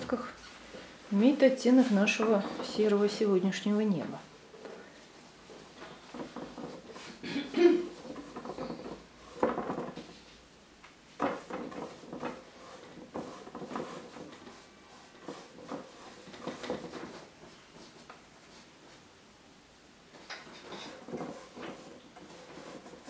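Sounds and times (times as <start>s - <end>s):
paintbrush scrubbing canvas: 1.6s - 7.2s, 7.8s - 10.3s, 11.2s - 19.1s, 20.2s - 23.0s.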